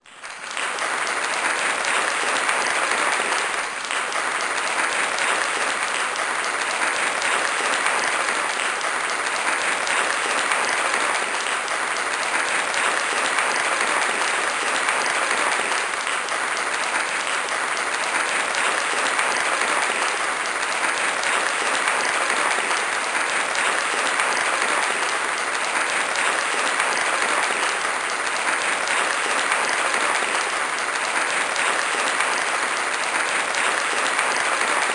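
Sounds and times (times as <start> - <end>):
large audience applauding: 0.0 - 34.9.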